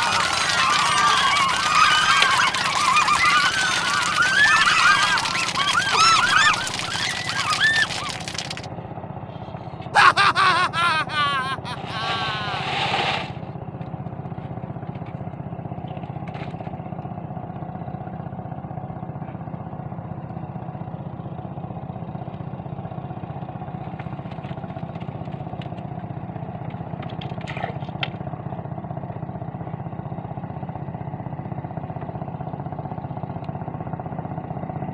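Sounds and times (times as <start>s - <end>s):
small engine running: 0.0s - 34.9s.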